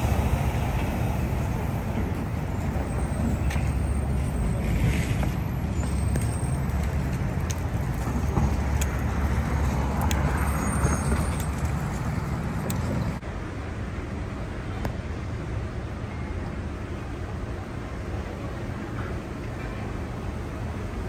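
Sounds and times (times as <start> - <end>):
rumble of passing traffic: 0.0 - 21.0.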